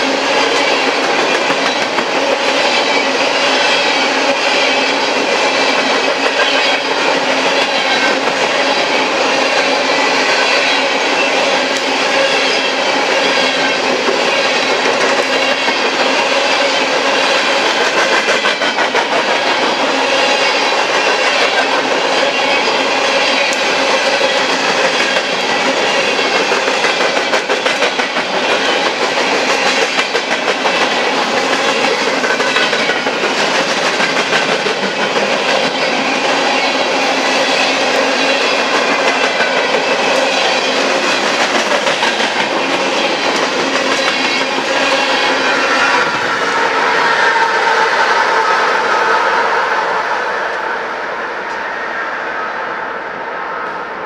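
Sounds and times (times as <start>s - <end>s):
train wheels clattering on rails: 0.0s - 50.7s.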